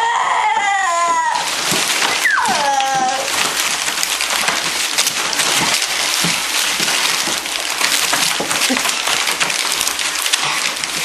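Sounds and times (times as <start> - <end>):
puppies licking and nibbling: 1.2 - 11.0.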